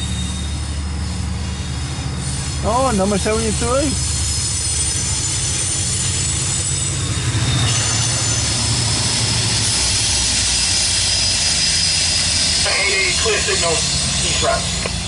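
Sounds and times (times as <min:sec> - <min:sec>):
high-pitched wheel squeal: 0:00.0 - 0:12.6
diesel locomotive running past: 0:00.0 - 0:15.0.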